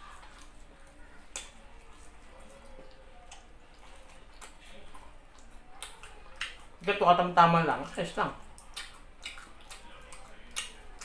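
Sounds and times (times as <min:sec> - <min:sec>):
person chewing with wet mouth clicks: 0:00.1 - 0:06.8, 0:08.4 - 0:11.0
lip smacks: 0:00.1 - 0:06.9, 0:08.4 - 0:11.0.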